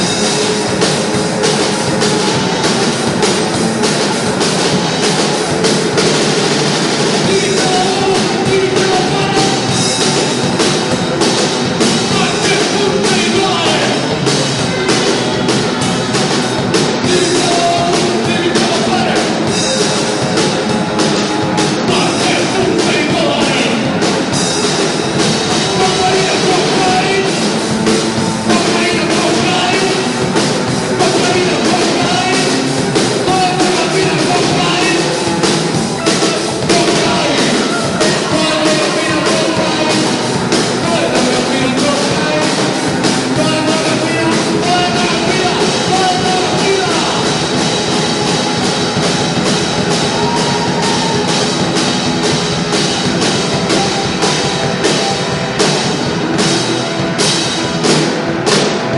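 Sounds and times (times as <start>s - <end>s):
drum kit beat: 0.0s - 58.9s
live rock band: 0.0s - 58.9s
person singing: 7.0s - 24.7s, 25.4s - 55.5s.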